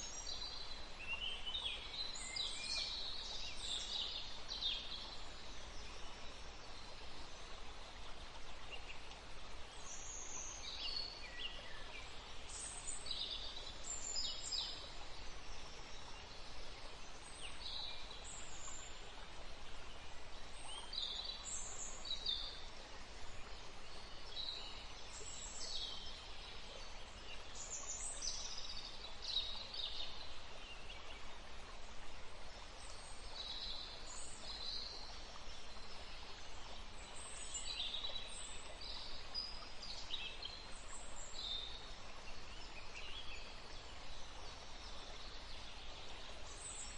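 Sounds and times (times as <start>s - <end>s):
steady background hiss: 0.0s - 46.9s.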